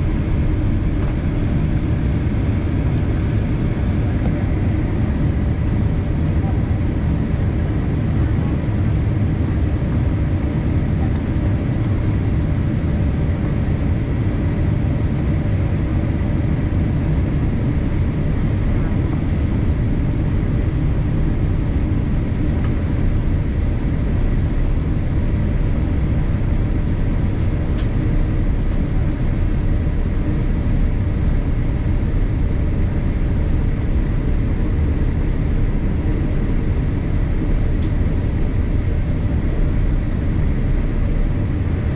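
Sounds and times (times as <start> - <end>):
airplane cabin engine rush: 0.0 - 41.9
faint constant whine: 0.0 - 41.9.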